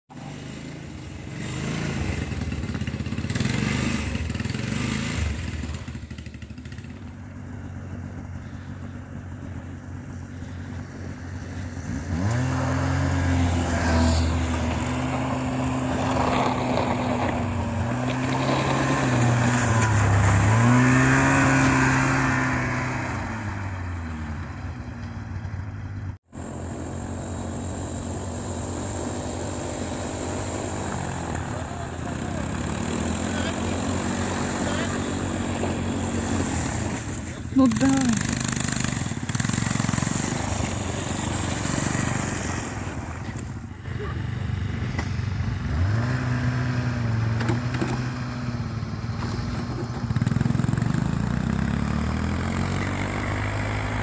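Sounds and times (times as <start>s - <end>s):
snowmobile engine revving: 0.1s - 24.5s, 26.4s - 54.0s.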